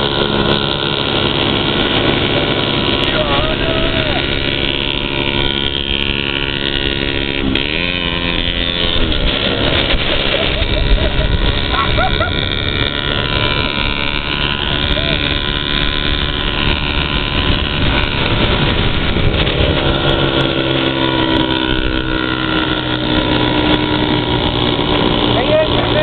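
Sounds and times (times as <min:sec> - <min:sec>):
atv and motorcycle engines: 0:00.0 - 0:26.0
wind rushing over microphone: 0:00.0 - 0:26.0.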